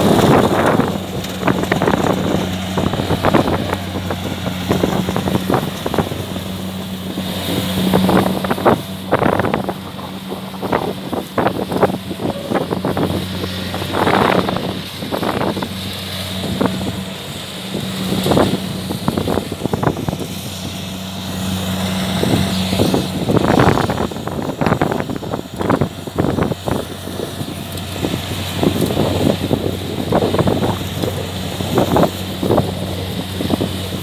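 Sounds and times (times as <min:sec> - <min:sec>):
harvester engine running: 0:00.0 - 0:34.0
loud rushes of noise: 0:00.0 - 0:34.0.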